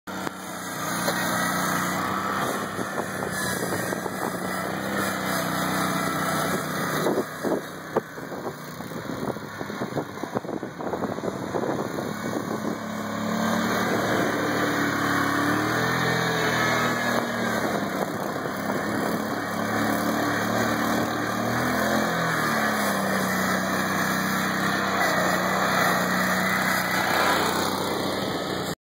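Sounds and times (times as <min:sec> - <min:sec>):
go-kart engine running: 0:00.1 - 0:28.8.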